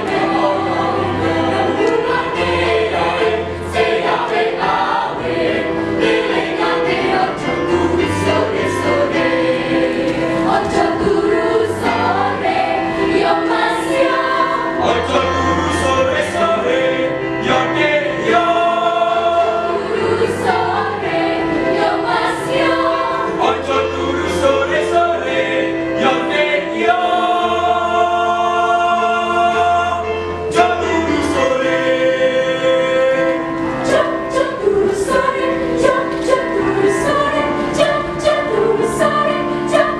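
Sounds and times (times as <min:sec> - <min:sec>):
choir singing in parts: 0:00.0 - 0:39.9.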